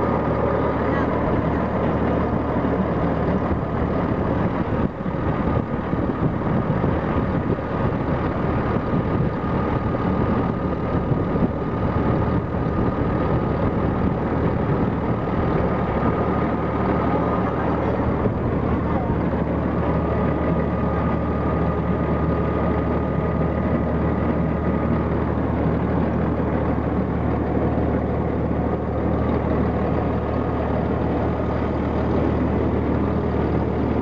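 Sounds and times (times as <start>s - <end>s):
low machinery hum: 0.0s - 34.0s
thin steady whine: 0.0s - 34.0s.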